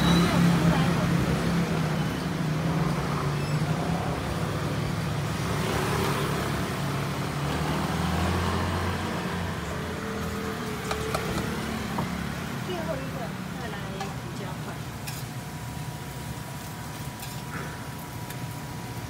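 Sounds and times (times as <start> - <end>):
vehicle engines humming: 0.0 - 16.4
road noise: 0.0 - 19.0.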